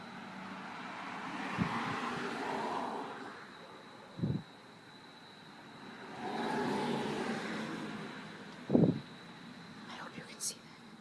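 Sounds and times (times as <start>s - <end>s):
passing road traffic: 0.0s - 10.1s
faint high whine: 0.0s - 11.0s.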